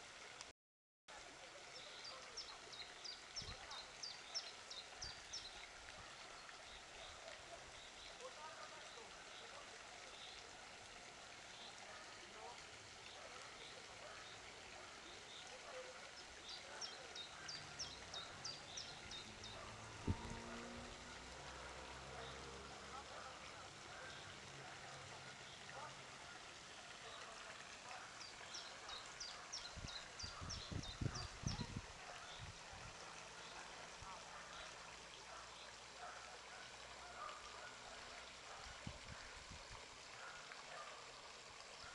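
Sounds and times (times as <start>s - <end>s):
faint outdoor background noise: 0.0s - 0.5s, 1.1s - 41.9s.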